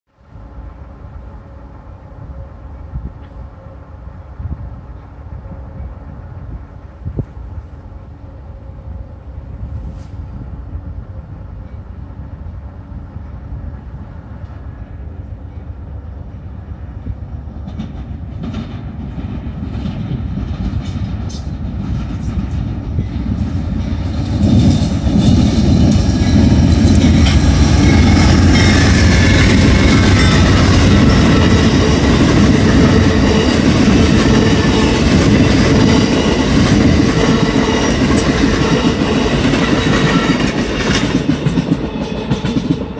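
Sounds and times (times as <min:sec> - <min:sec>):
train passing on rails: 0:00.1 - 0:42.9.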